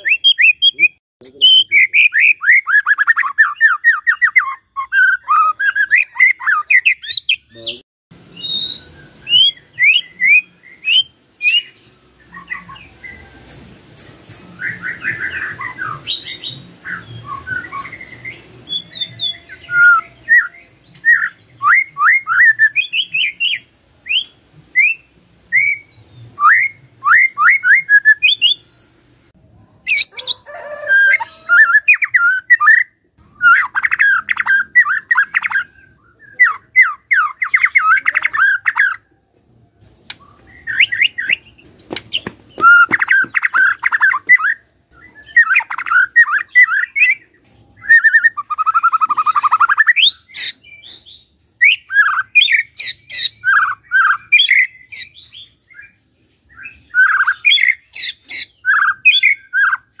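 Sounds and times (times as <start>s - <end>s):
bird singing trills: 0.0s - 29.1s, 29.9s - 39.0s, 40.2s - 55.9s, 56.7s - 60.0s.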